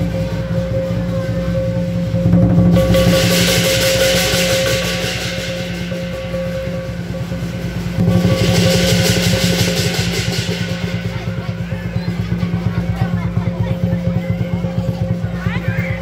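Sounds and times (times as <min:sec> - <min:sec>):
clashing cymbals: 0:00.0 - 0:16.0
drum beaten fast: 0:00.0 - 0:16.0.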